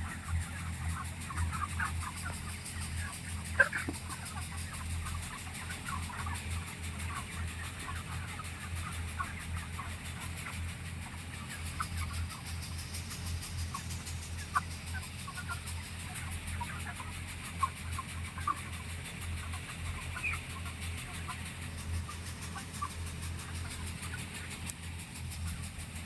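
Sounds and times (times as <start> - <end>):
chickens clucking: 0.0 - 26.0
steady low hum: 0.0 - 26.0.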